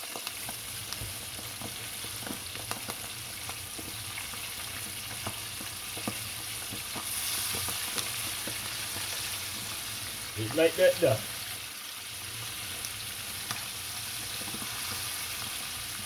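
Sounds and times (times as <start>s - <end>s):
chicken frying in hot oil: 0.0s - 16.0s
oil popping and crackling: 0.0s - 16.0s.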